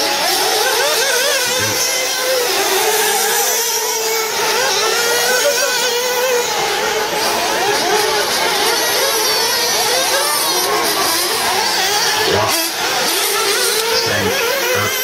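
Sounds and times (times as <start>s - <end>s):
rc buggy engines buzzing: 0.0s - 15.0s.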